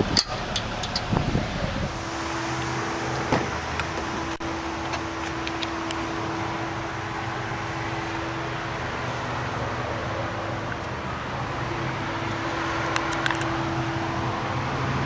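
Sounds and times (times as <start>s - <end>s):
engine or blower hum and hiss: 0.0s - 15.0s.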